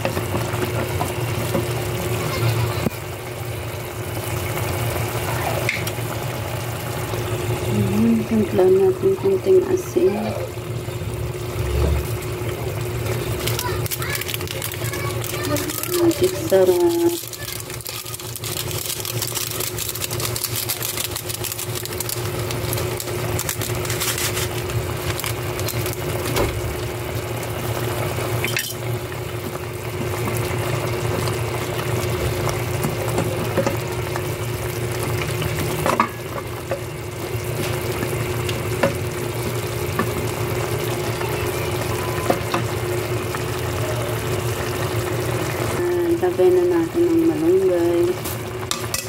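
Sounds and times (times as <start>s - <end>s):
food simmering and sizzling in pot: 0.0s - 49.0s.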